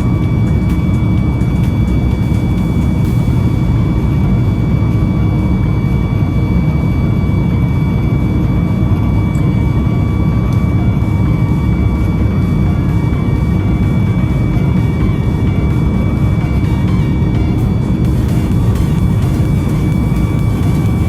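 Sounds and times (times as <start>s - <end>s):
jet engine cabin rumble: 0.0s - 21.0s
thin steady whine: 0.0s - 21.0s.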